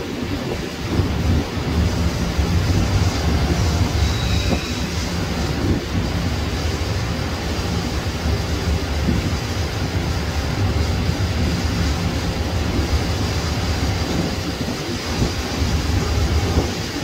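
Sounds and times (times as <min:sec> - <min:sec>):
faint jet whine: 0:00.0 - 0:17.0
jet engines rumbling at low power: 0:00.0 - 0:17.0.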